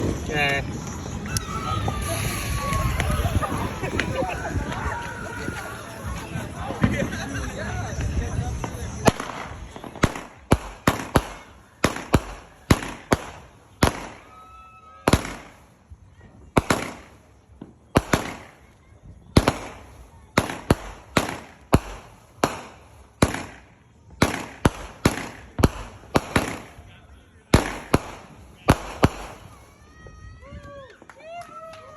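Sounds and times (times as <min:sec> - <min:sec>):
fireworks bangs with hiss: 0:00.0 - 0:31.9.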